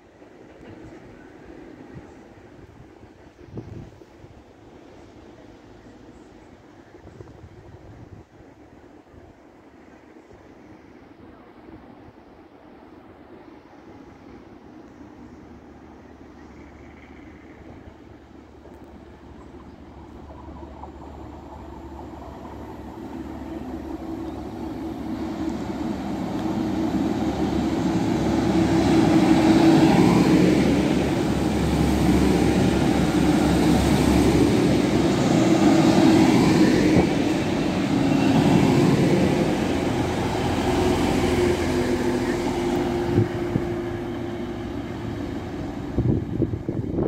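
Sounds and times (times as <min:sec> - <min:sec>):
train rumbling past: 0:00.0 - 0:47.0
train wheels on rails: 0:00.0 - 0:47.0.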